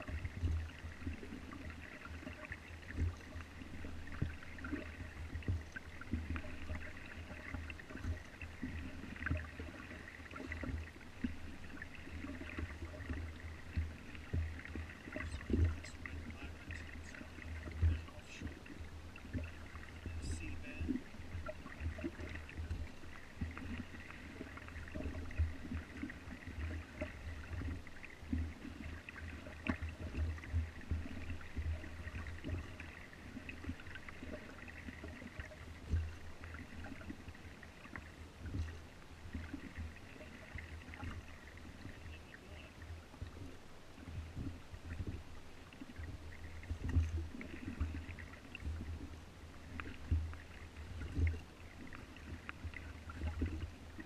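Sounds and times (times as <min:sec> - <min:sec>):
water splashing along hull: 0:00.0 - 0:54.0.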